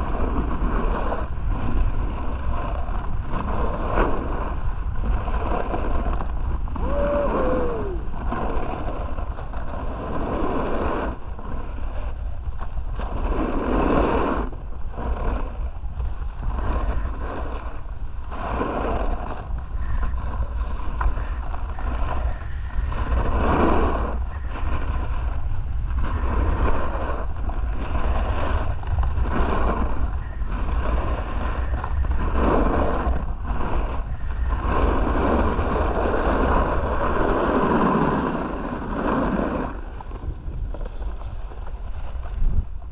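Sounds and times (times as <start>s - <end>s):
snowboard edges scraping snow: 0.0s - 42.9s
wind buffeting microphone: 0.0s - 42.9s.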